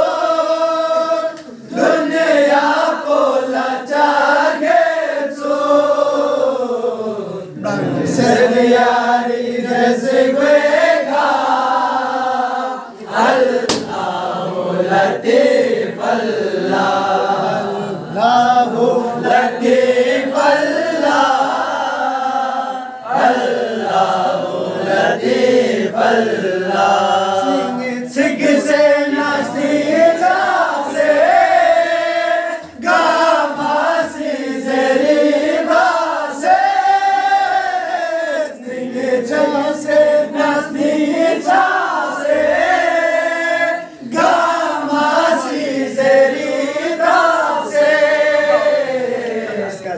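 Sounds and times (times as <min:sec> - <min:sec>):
group chanting: 0:00.0 - 0:49.9.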